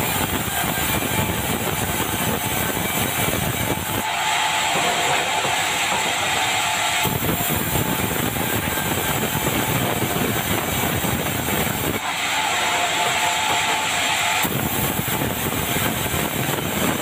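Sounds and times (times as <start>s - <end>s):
band saw cutting timber: 0.0s - 17.0s.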